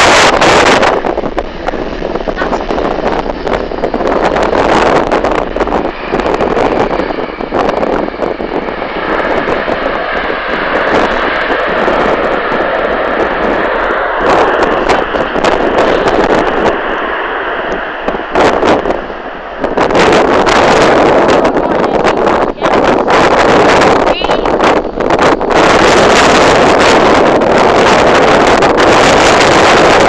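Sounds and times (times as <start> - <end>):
faint steady whine: 0.0 - 24.1
jet airliner engines: 0.0 - 30.0
wind buffeting microphone: 0.0 - 30.0.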